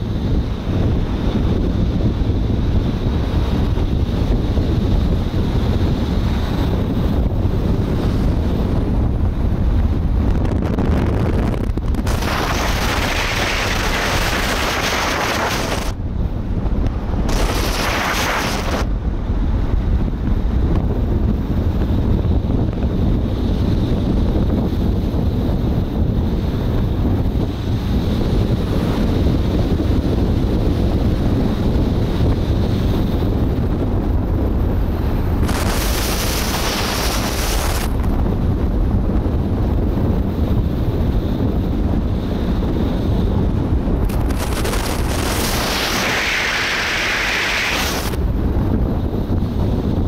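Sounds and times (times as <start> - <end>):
car road rumble: 0.0 - 50.0
wind buffeting microphone: 0.0 - 50.0.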